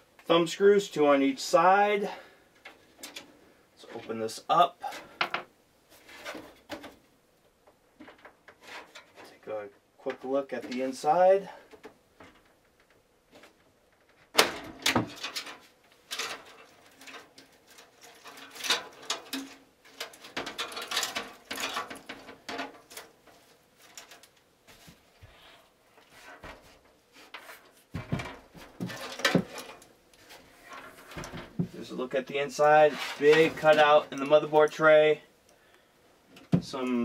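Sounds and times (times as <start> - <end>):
knocks scrapes and rattles: 2.6 - 7.0, 8.0 - 9.5, 10.2 - 35.1.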